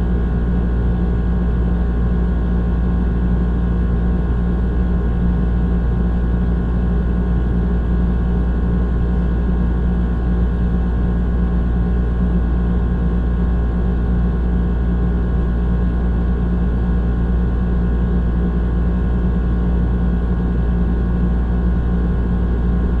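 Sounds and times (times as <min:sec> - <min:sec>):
air conditioner droning: 0:00.0 - 0:23.0.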